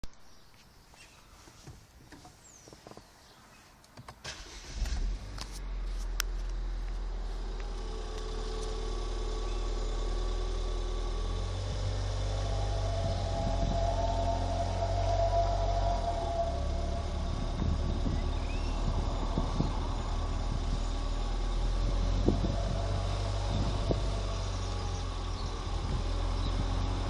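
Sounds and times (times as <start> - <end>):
car engine idling: 4.3 - 27.0
turbo whine: 4.9 - 27.0.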